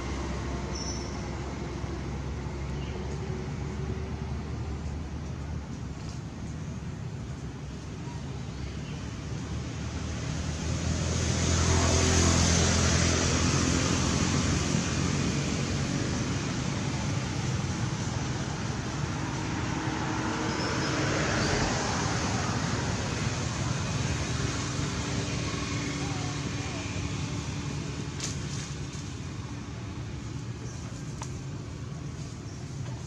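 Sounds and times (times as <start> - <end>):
road traffic: 0.0 - 33.0.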